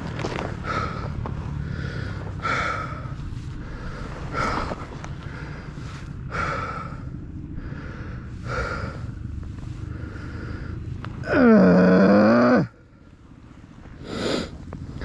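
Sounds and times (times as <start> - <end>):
dirt bike engine running: 0.0 - 15.0
rider breathing heavily: 0.1 - 15.0.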